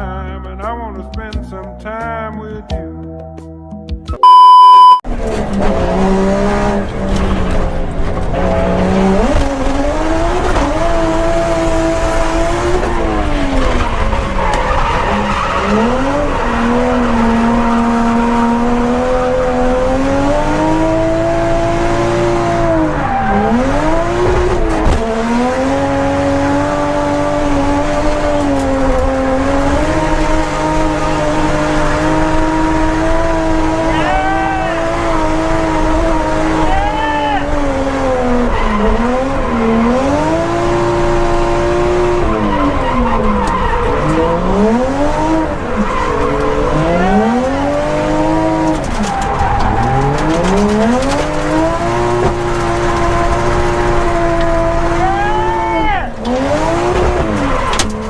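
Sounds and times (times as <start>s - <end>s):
car engine revving: 5.1s - 58.0s.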